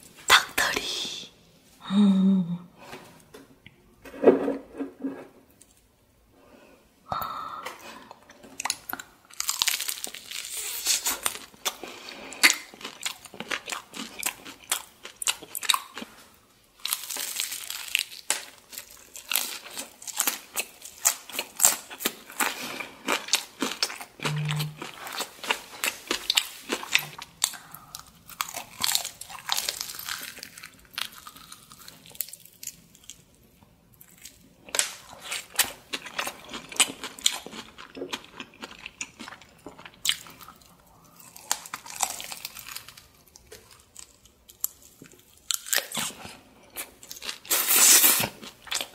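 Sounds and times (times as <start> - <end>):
crunchy chewing of fried chicken: 8.5 - 33.4, 34.0 - 48.9.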